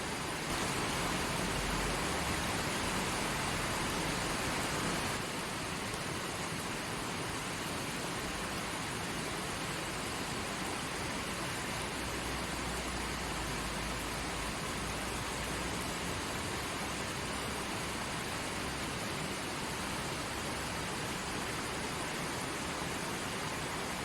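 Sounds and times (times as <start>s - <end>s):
creek flowing: 0.0s - 24.0s.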